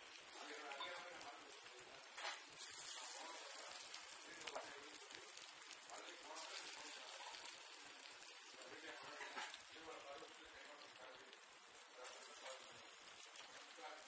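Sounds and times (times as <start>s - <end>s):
hot oil sizzling and popping: 0.0s - 14.0s.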